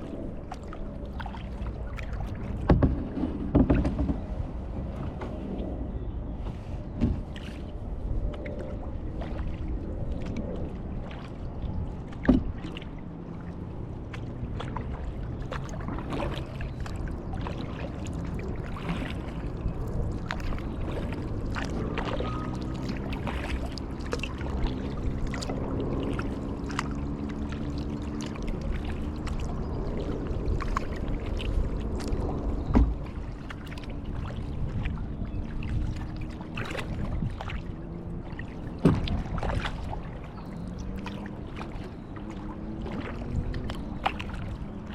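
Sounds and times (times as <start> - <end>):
low droning hum: 0.0 - 44.9
paddle splashing in water: 0.0 - 44.9.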